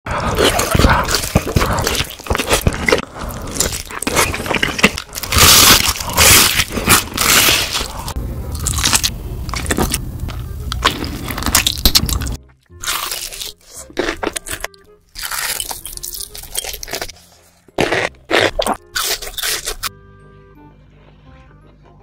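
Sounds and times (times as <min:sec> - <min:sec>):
crunching and chewing fried chicken: 0:00.1 - 0:19.9.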